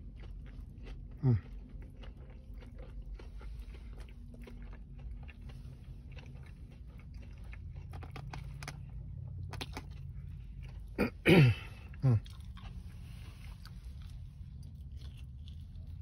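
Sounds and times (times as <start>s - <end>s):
crunchy chewing: 0.0s - 16.0s.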